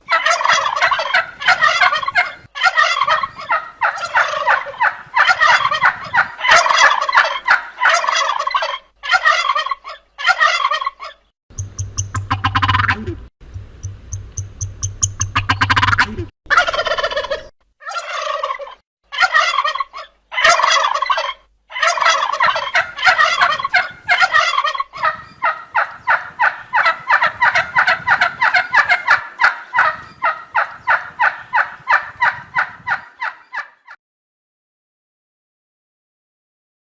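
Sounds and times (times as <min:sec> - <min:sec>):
turkey gobbling: 0:00.0 - 0:13.2, 0:14.2 - 0:34.0.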